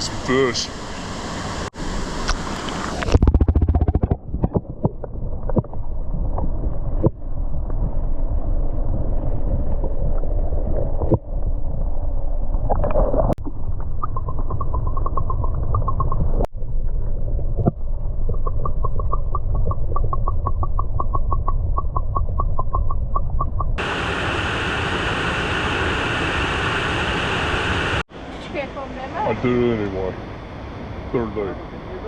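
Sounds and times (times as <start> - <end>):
underwater rushing and gurgling water: 0.0 - 28.0.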